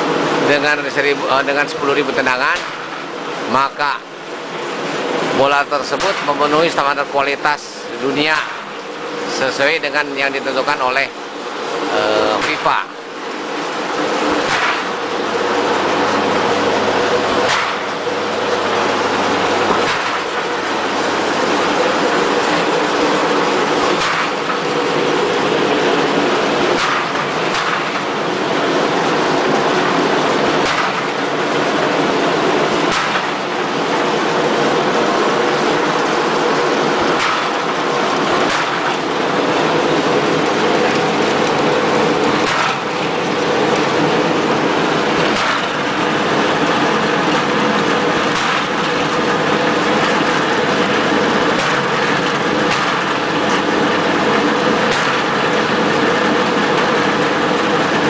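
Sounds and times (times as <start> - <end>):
test machine running: 0.0 - 58.0.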